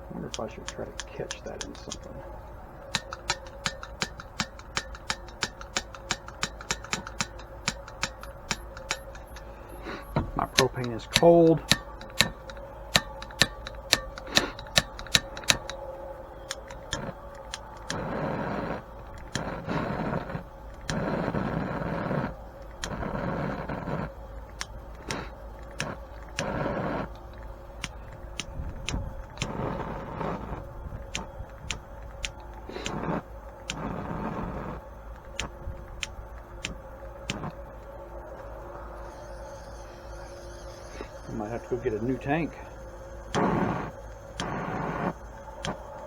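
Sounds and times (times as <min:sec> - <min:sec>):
hissing torch flame: 0:00.0 - 0:46.0
torch igniter clicks: 0:00.0 - 0:46.0.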